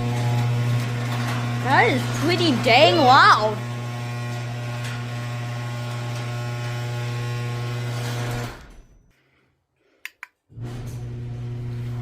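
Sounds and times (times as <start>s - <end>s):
garage door opener motor humming: 0.0s - 9.1s, 10.5s - 12.0s.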